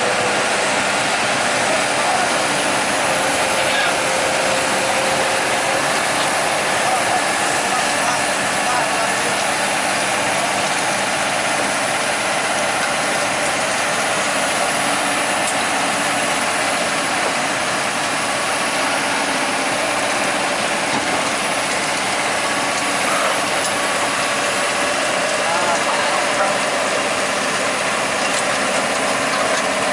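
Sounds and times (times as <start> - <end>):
heavy equipment diesel engines: 0.0 - 29.9.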